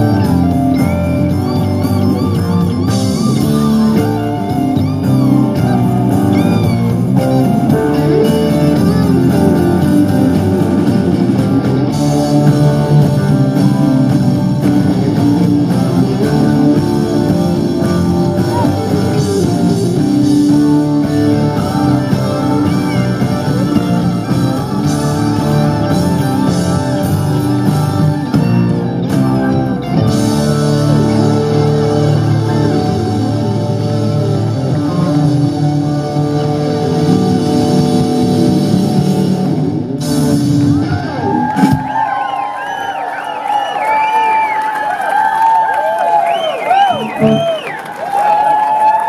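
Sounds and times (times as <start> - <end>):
blues-rock band playing: 0.0 - 42.4, 45.1 - 49.0
electric guitars: 0.0 - 49.0.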